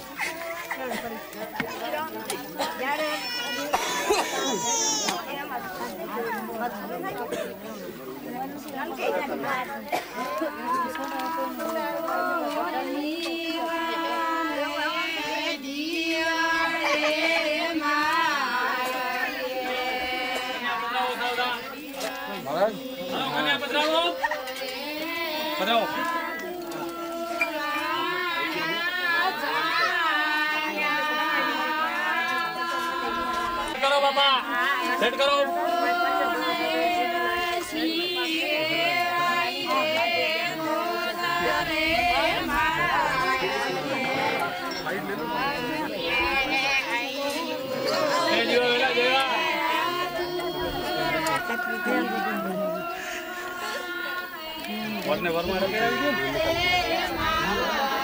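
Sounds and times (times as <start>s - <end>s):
women singing together: 0.0s - 58.0s.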